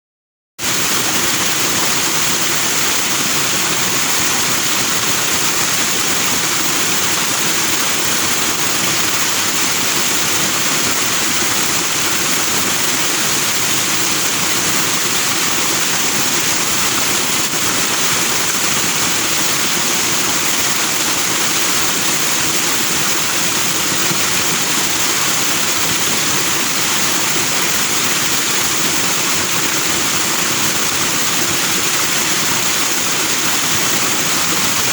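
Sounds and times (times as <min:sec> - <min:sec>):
stream rushing over rocks: 0:00.6 - 0:34.9.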